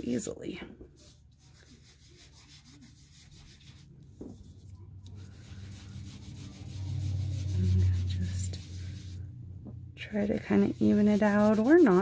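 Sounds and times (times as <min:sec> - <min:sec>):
sponge scrubbing on cardstock: 0:01.0 - 0:09.2, 0:10.1 - 0:12.0.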